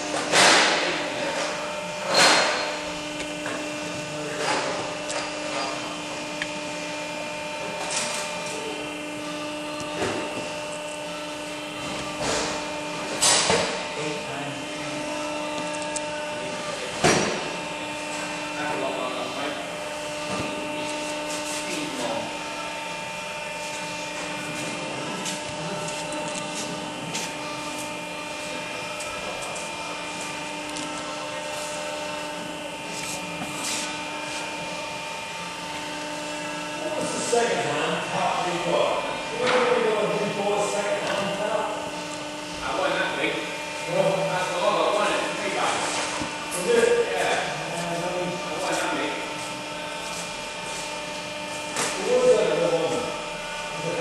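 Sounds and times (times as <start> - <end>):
machine humming: 0.0 - 54.0.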